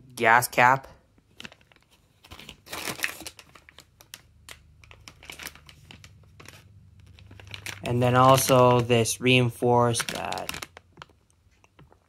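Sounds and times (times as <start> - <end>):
plastic bag crinkling: 1.2 - 12.0.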